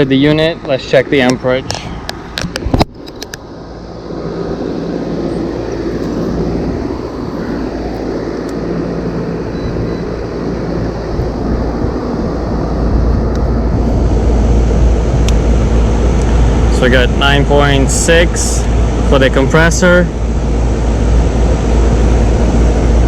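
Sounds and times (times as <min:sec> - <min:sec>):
air conditioner compressor humming: 0:00.0 - 0:23.0
condenser fan blowing: 0:00.0 - 0:23.0.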